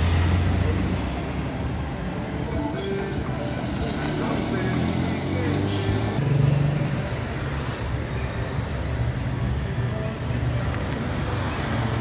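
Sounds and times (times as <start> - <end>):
car engines rumbling: 0.0 - 12.0
road noise: 0.0 - 12.0.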